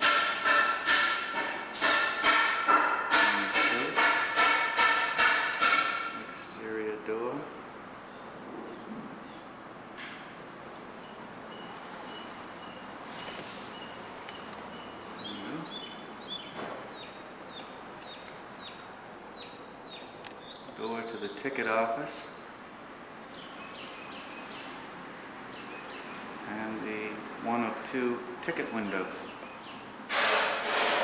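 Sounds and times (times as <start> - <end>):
faint insect chirping: 0.0 - 30.7
steady hiss: 0.0 - 31.0.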